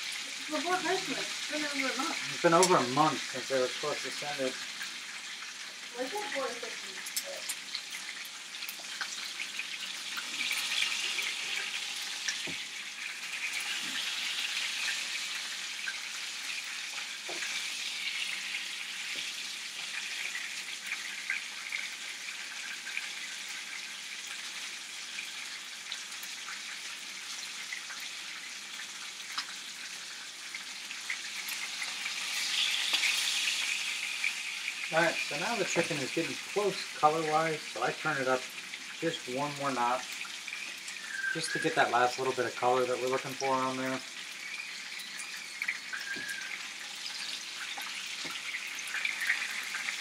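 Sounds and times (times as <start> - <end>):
chicken sizzling in a skillet: 0.0 - 50.0.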